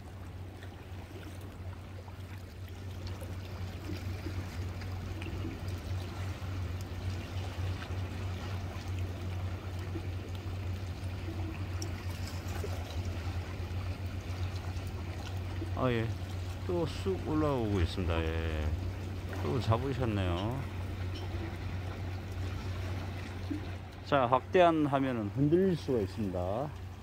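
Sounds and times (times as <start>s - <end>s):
water lapping against rocks: 0.0s - 27.0s.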